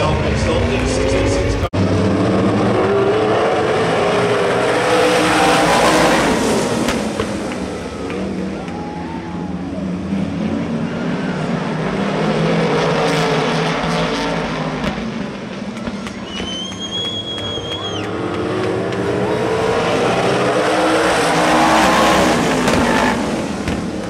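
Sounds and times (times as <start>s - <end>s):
race car engine running hard: 0.0s - 24.0s.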